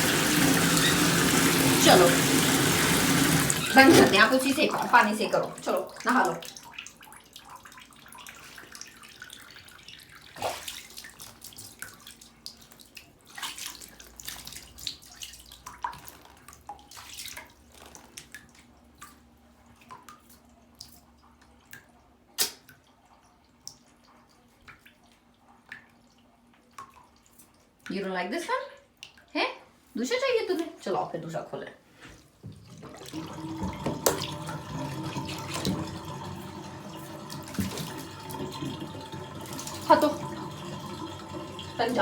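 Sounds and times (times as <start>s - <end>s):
tap water trickling and splashing: 0.0s - 28.2s, 32.0s - 42.0s.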